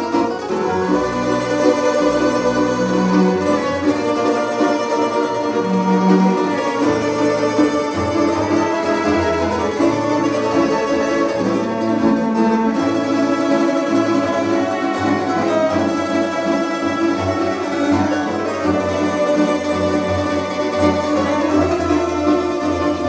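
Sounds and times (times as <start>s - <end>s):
bowed cello: 0.0s - 23.0s
double basses: 0.0s - 23.0s.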